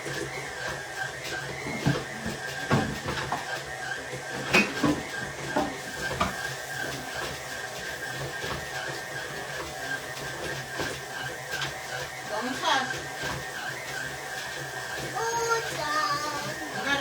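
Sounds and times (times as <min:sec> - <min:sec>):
stand mixer motor humming: 0:00.0 - 0:17.0.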